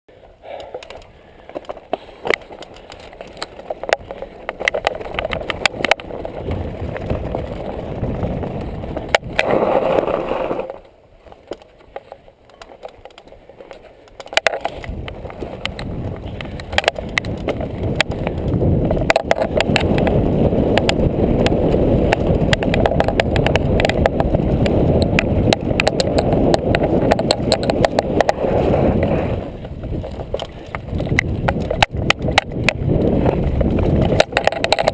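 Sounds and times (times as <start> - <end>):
bike tyres rolling over stones: 0.1 - 34.9
bike rattling with sharp knocks: 0.5 - 34.9.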